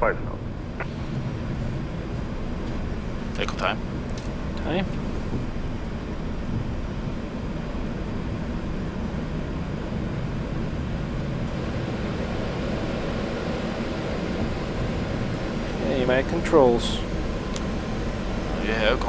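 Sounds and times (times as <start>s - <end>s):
cockpit air conditioning hiss: 0.0s - 19.0s
jet engines running at low thrust: 0.0s - 19.0s.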